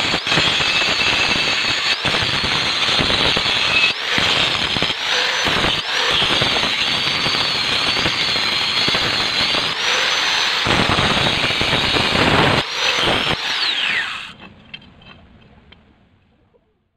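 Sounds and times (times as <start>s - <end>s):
grinder spinning down: 0.0s - 14.5s
angle grinder grinding steel: 0.0s - 15.2s.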